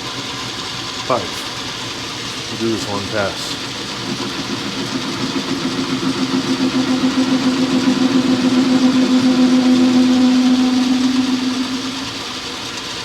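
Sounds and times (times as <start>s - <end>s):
metal lathe cutting: 0.0s - 13.0s.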